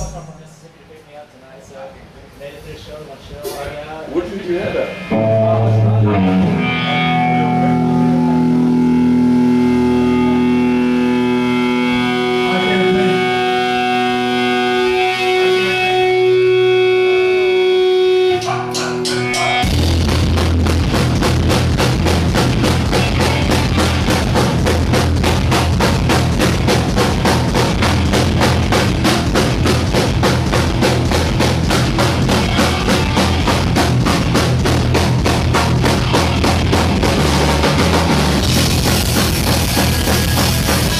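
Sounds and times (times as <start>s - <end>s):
punk rock band playing: 0.0s - 0.6s, 4.8s - 40.9s
electric guitar chords ringing: 4.8s - 40.9s.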